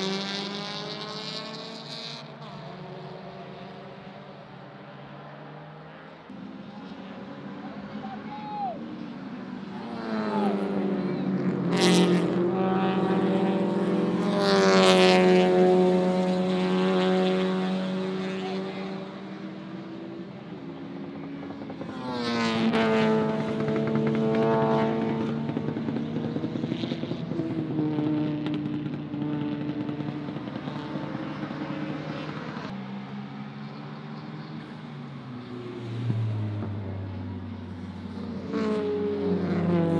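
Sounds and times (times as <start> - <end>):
race car engines accelerating: 0.0 - 39.9.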